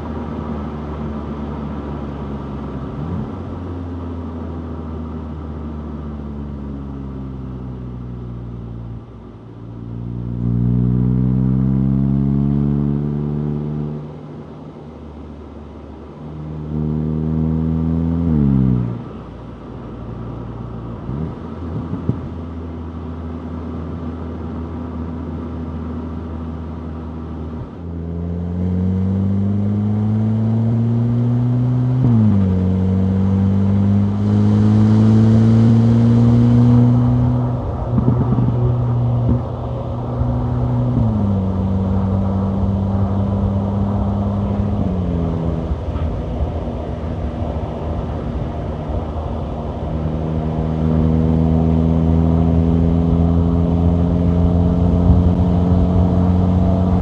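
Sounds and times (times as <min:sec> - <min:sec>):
car engine driving: 0:00.0 - 0:57.0.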